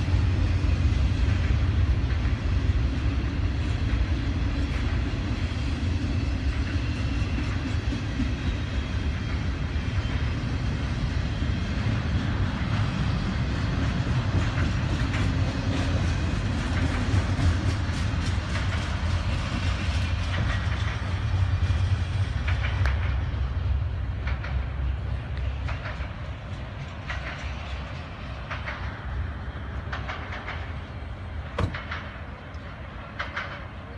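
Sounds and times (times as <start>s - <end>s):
train wheels rumbling on rail: 0.0s - 33.9s
wheels clacking over rail joints: 0.1s - 33.9s.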